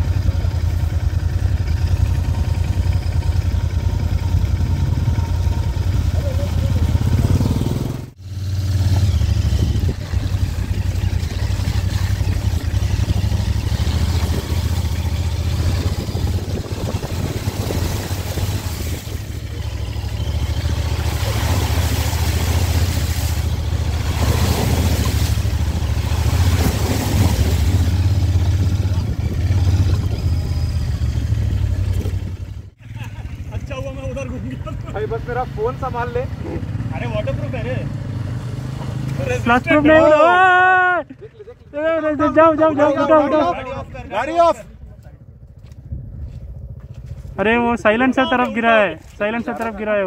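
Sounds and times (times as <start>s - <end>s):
wind and tyre noise: 0.0s - 32.8s, 41.7s - 50.0s
motorcycle engine running: 0.0s - 50.0s.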